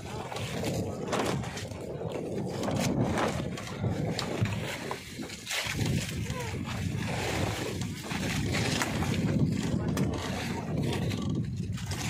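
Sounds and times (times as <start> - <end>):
wind and water rushing: 0.0 - 12.0.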